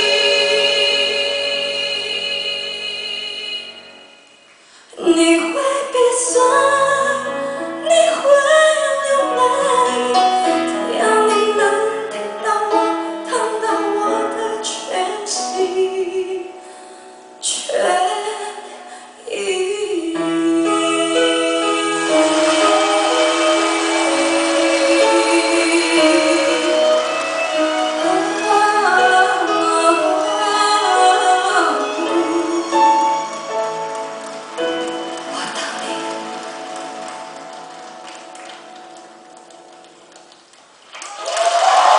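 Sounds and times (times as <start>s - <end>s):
slow song with singing: 0.0s - 37.1s.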